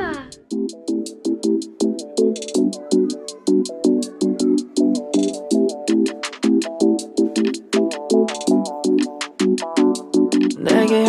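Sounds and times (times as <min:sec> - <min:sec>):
electronic music with quick beat: 0:00.3 - 0:11.0.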